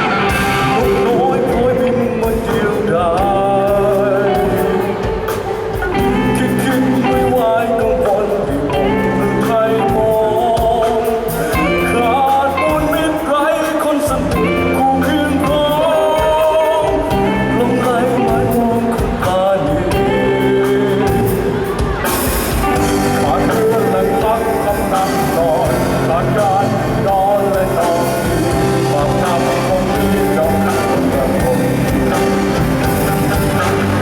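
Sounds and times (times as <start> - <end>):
band playing a song: 0.0 - 34.0
lead vocals singing: 0.0 - 34.0.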